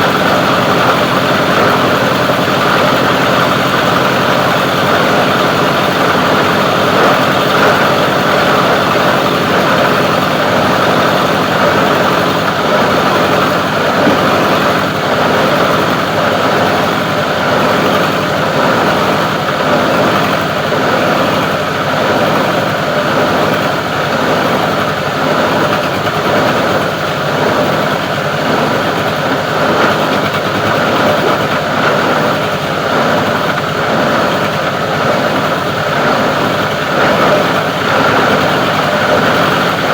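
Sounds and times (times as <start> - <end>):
plastic grinder machine drone: 0.0 - 39.9.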